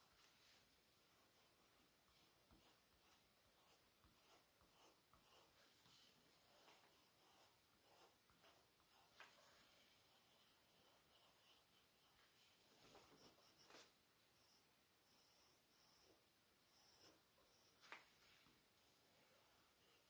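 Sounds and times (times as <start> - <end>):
colored pencil strokes on paper: 0.0 - 20.0.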